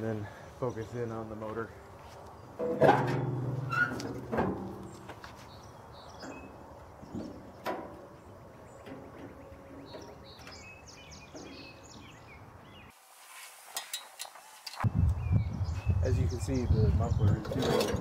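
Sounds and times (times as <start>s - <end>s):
birds chirping: 0.0s - 13.0s, 13.9s - 18.0s.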